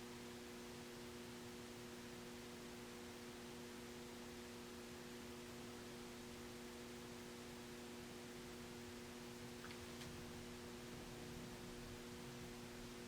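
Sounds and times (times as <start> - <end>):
faint mains hum: 0.0 - 13.0
soft hiss: 0.0 - 13.0.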